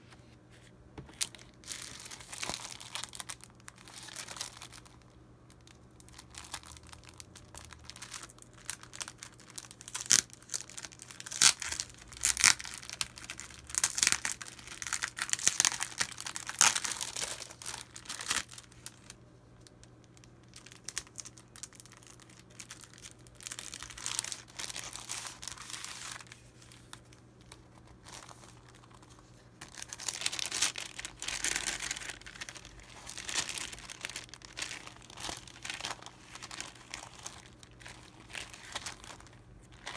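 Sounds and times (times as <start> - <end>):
plastic and paper crinkling: 0.5 - 39.9.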